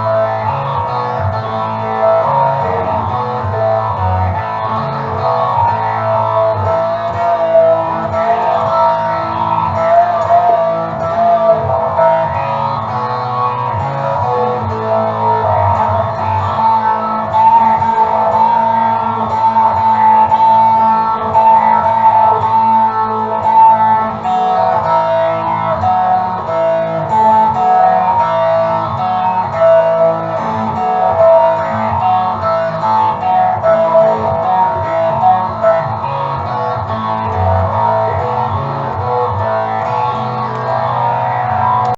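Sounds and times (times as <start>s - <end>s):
plucked and strummed guitar: 0.0s - 41.9s
steady bass line: 0.0s - 41.9s.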